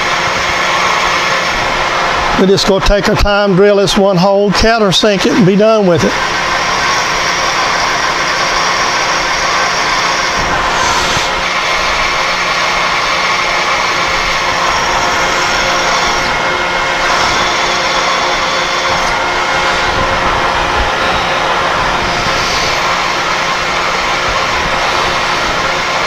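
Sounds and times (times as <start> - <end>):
drill bit cutting steel: 0.0 - 26.0
milling machine spindle running: 0.0 - 26.0.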